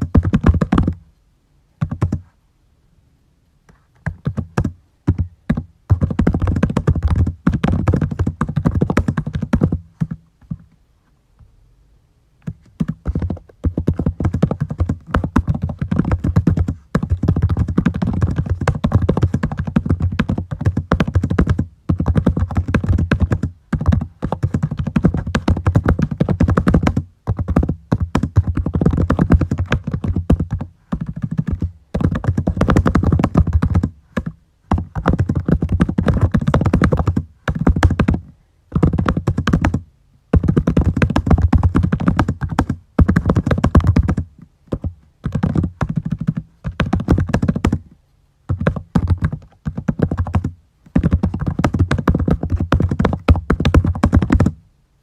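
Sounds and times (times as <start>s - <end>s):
fast typing on keyboard: 0.0s - 1.0s, 1.8s - 2.2s, 4.0s - 10.6s, 12.7s - 47.8s, 48.5s - 54.6s.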